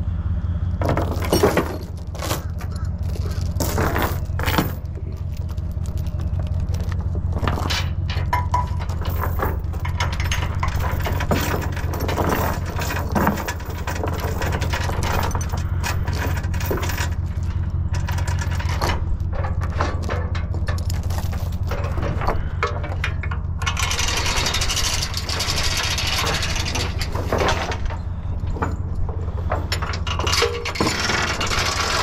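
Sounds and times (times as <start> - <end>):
steady low hum: 0.0 - 32.0
chains clinking and rattling: 0.8 - 32.0.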